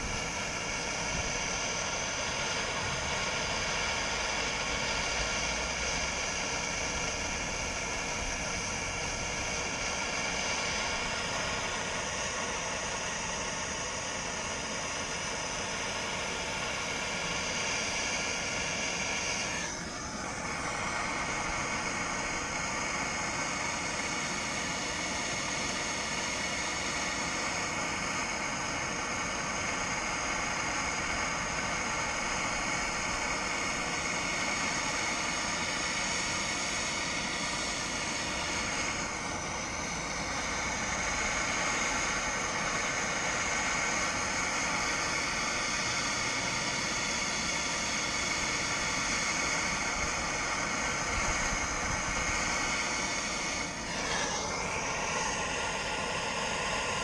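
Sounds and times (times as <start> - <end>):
gas torch flame hissing: 0.0 - 57.0.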